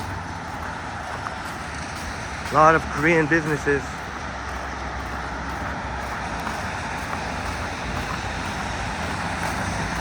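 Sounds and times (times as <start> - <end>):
rain: 0.0 - 10.0
traffic on wet road: 0.0 - 10.0.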